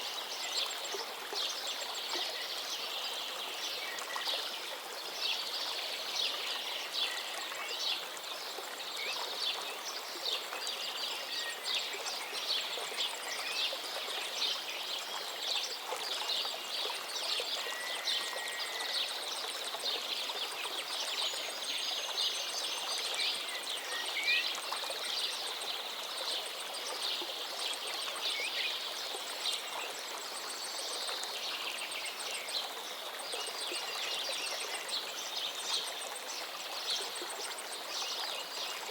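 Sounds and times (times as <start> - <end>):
flowing stream: 0.0 - 38.9.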